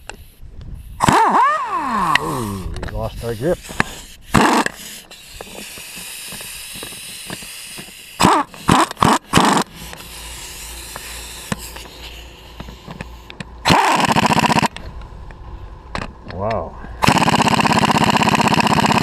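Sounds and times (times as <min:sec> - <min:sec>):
pneumatic impact wrench rattling: 0:00.0 - 0:14.9, 0:17.0 - 0:19.0.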